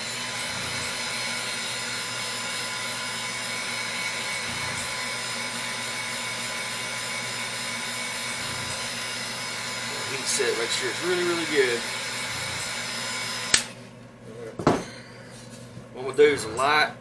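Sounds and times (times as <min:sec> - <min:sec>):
heat gun running: 0:00.0 - 0:13.9.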